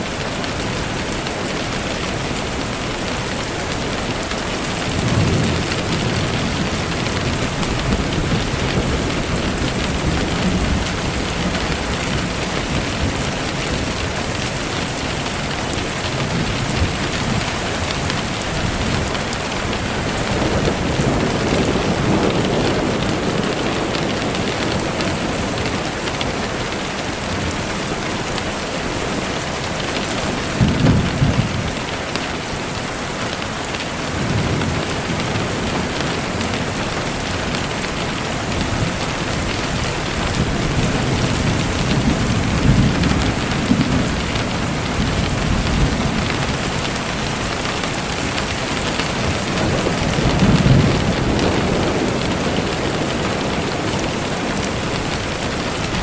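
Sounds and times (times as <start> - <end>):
rain hiss: 0.0 - 56.0
low thunder rumbles: 2.4 - 28.4, 29.0 - 31.9, 34.1 - 56.0.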